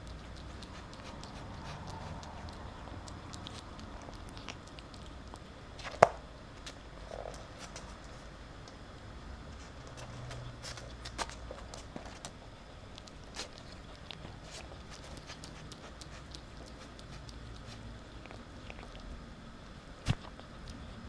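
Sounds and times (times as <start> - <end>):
ferret crunching crumbs: 0.0 - 8.8, 9.6 - 19.2.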